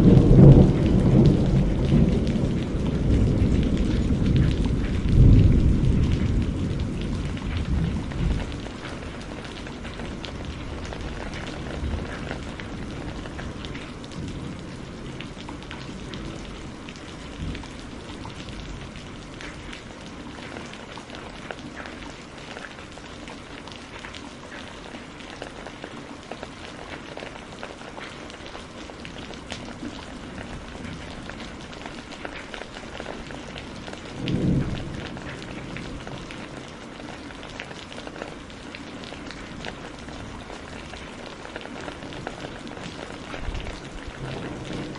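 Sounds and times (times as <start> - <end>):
thunder rumbling: 0.0 - 22.3, 28.9 - 44.9
pattering raindrops: 0.0 - 44.9
steady rain: 0.0 - 44.9.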